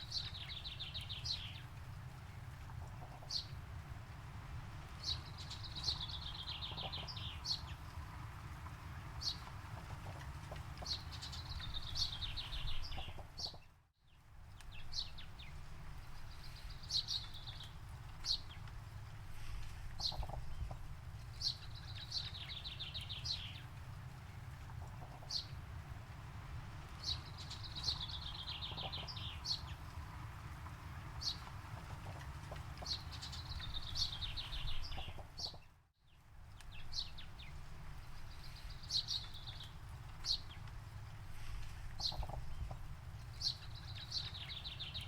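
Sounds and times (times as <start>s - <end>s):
songbird singing: 0.0s - 45.0s.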